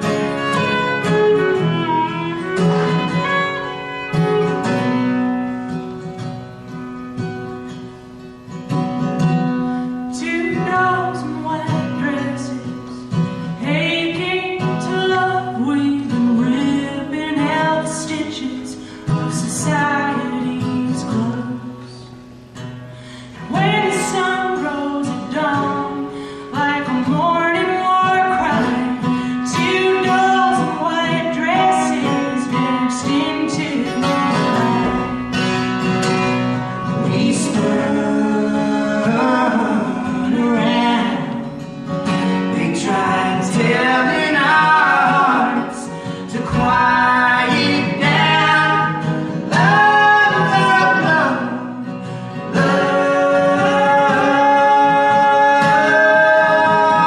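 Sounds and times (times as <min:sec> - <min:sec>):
acoustic guitar: 0:00.0 - 0:57.0
woman singing folk song: 0:00.0 - 0:57.0.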